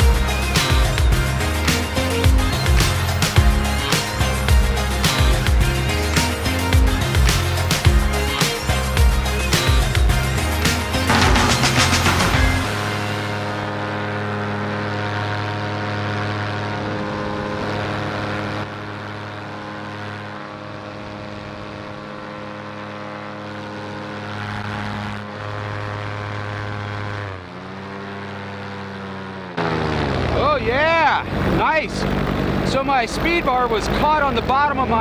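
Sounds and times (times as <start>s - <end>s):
paramotor engine droning: 0.0s - 35.0s.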